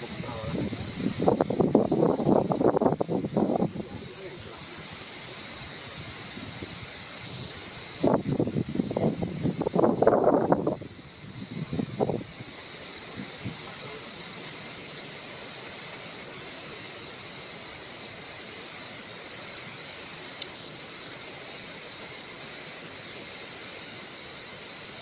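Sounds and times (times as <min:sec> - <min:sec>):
insect chorus buzzing: 0:00.0 - 0:25.0.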